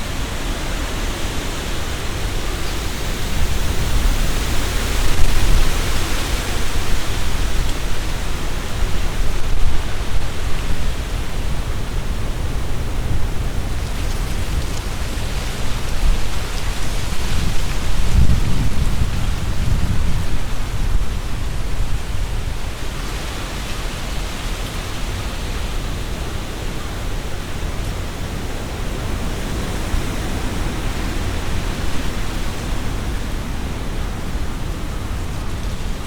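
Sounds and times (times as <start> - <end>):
leaves rustling: 0.0 - 36.0
strong wind gusting: 0.0 - 36.0.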